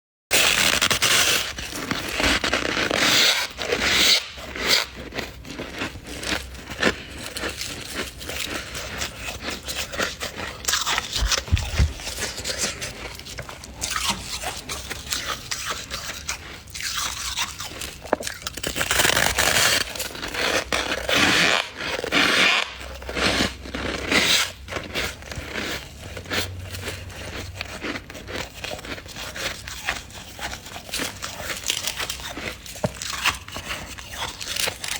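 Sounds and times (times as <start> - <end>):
freezer frost crunching and scraping: 0.3 - 34.9.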